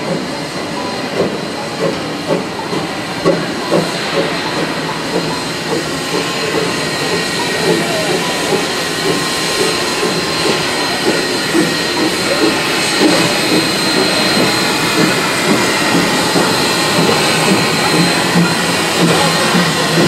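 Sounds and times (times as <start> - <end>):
steam hissing: 0.0 - 20.0
steam locomotive rolling past: 0.0 - 20.0.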